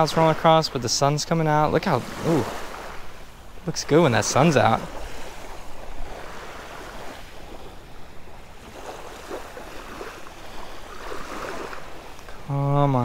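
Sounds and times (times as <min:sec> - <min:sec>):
small waves lapping on gravel: 0:00.0 - 0:12.5.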